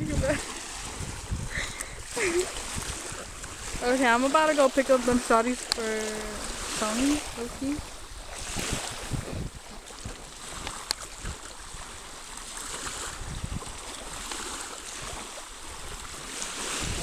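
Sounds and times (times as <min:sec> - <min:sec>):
surf washing: 0:00.0 - 0:17.0
wind buffeting microphone: 0:00.0 - 0:17.0.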